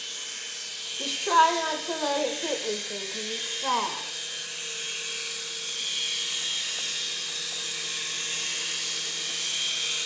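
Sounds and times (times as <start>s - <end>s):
toy helicopter motor whine: 0.0s - 10.0s.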